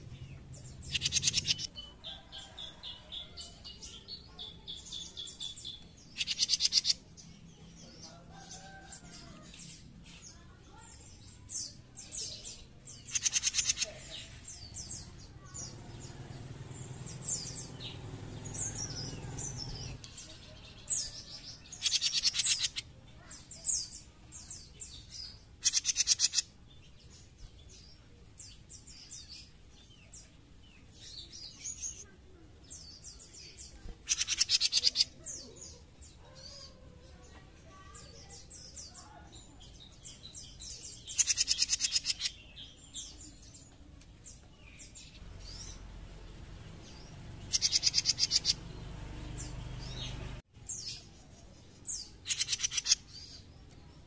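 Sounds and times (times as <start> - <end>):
soft high bird chirps: 0.0 - 16.2, 16.8 - 46.2, 46.9 - 54.0.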